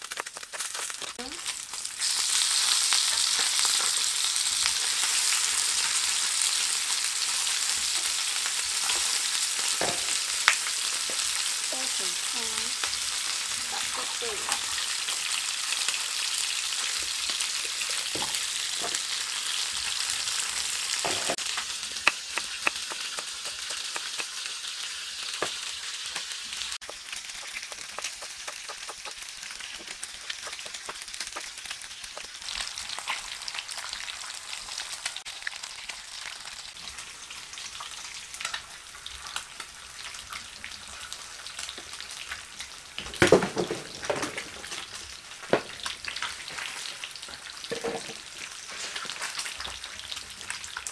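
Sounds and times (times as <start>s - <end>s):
fish sizzling in frying pan: 0.0s - 50.9s.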